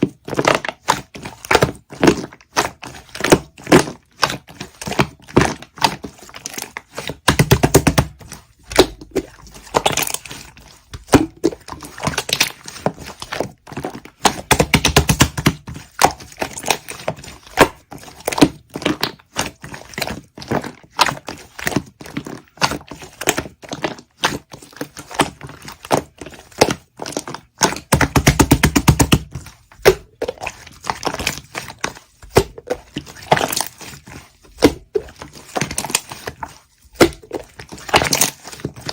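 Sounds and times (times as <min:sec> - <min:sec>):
rapid slime crackling: 0:00.1 - 0:38.9
slime squished by hand: 0:00.2 - 0:38.9.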